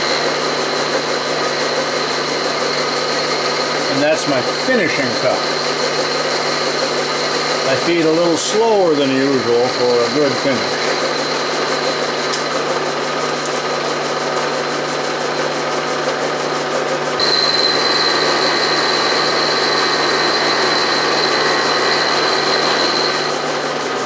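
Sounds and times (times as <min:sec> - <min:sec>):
high machining whine: 0:00.0 - 0:13.1, 0:17.2 - 0:23.9
milling machine cutting metal: 0:00.0 - 0:15.4, 0:16.9 - 0:24.0.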